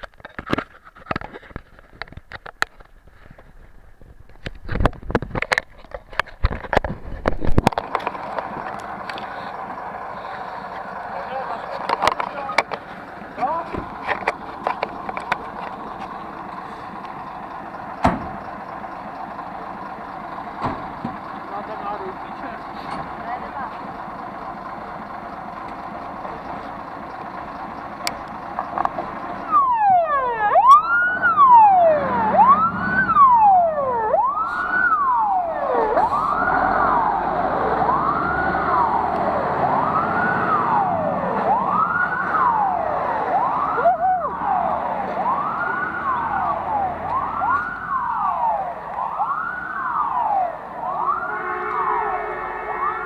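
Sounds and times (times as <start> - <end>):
fire engine siren wailing: 7.6 - 53.0.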